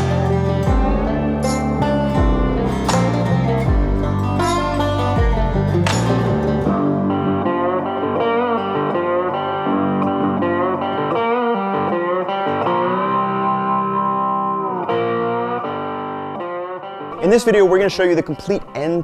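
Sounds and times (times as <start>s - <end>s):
guitar instrumental with bending notes: 0.0s - 19.0s.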